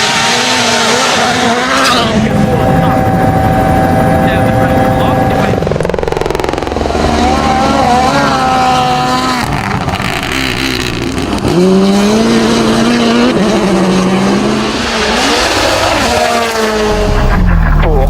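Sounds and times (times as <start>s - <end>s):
rally car engine at full throttle: 0.0s - 18.0s.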